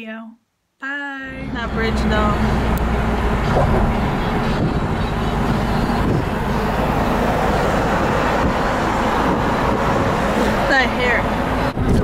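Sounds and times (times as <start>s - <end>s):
car road noise from inside: 1.3s - 12.0s.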